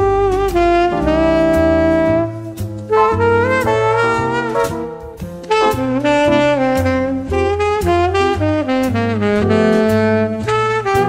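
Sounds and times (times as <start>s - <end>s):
jazzy background music: 0.0s - 11.0s.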